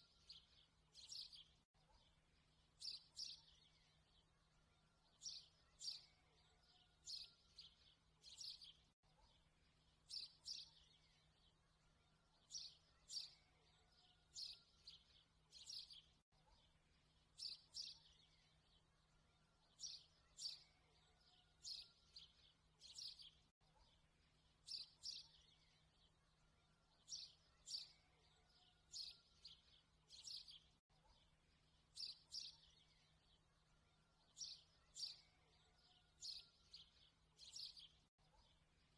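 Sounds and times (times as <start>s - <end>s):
faint bird chirping: 0.0s - 38.9s.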